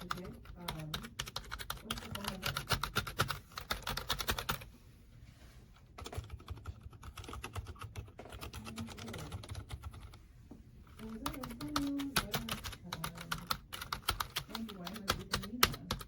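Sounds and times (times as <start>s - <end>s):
fast typing on keyboard: 0.0s - 4.7s, 6.0s - 10.2s, 10.9s - 16.0s.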